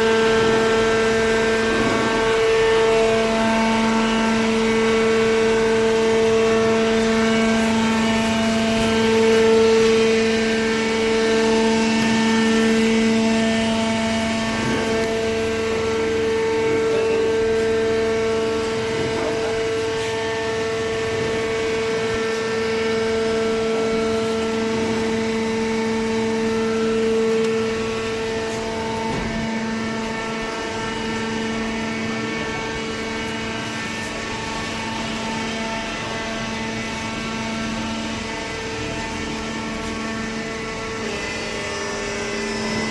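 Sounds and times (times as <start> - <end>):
hydraulic motor and pump humming: 0.0 - 42.9.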